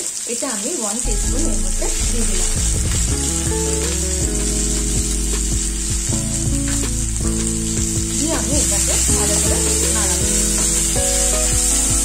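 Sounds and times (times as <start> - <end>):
food sizzling in hot oil: 0.0 - 12.0
soft background music: 1.0 - 12.0.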